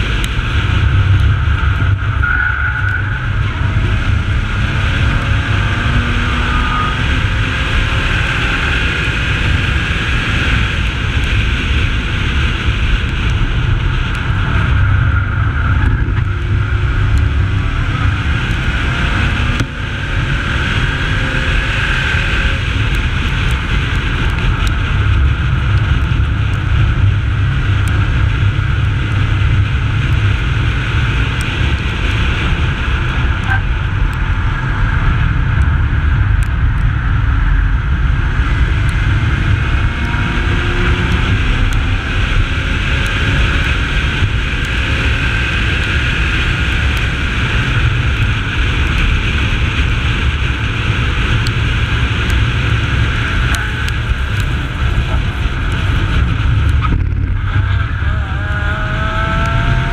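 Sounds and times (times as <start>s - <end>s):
race car engine running hard: 0.0s - 59.9s
rumbling wind noise: 0.0s - 59.9s.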